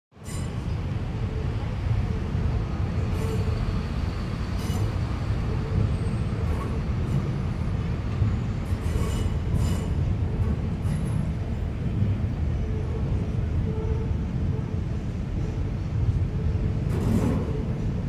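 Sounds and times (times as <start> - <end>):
train rumbling over bridge: 0.2 - 18.0.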